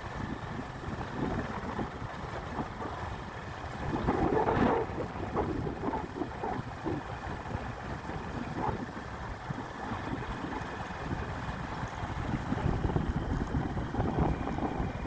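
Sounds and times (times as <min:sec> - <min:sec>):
low vehicle rumble: 0:00.0 - 0:15.0
wind buffeting microphone: 0:00.0 - 0:15.0.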